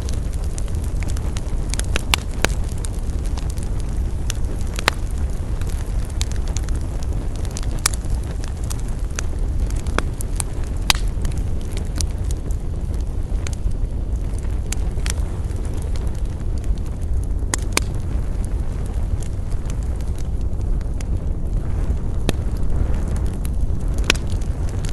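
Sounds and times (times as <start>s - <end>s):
campfire crackling and popping: 0.0s - 24.9s
low steady rumble: 0.0s - 24.9s.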